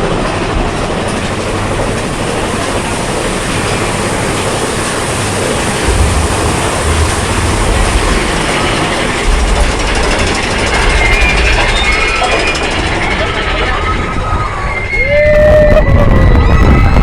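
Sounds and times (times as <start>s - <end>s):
low rumbling: 0.0s - 17.0s
roller coaster running on track: 0.0s - 17.0s.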